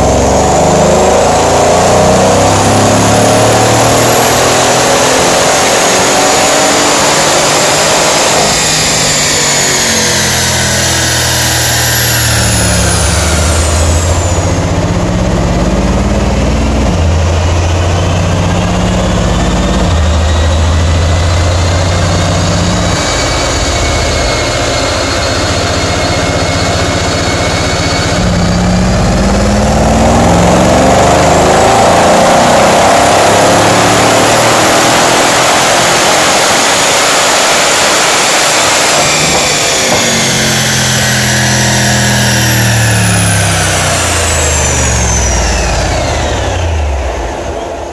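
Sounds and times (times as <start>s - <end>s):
car engine revving on dyno: 0.0s - 47.9s
high whine: 0.0s - 47.9s.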